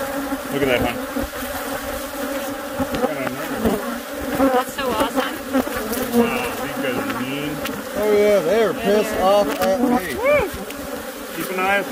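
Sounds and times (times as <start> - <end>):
single bees zipping past: 0.0 - 11.9
swarm of bees buzzing: 0.0 - 11.9.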